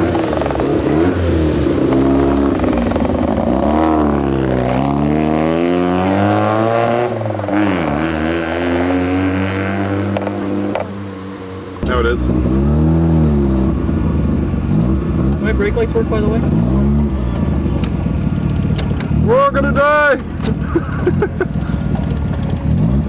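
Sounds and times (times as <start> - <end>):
rotary engine revving: 0.0 - 23.0.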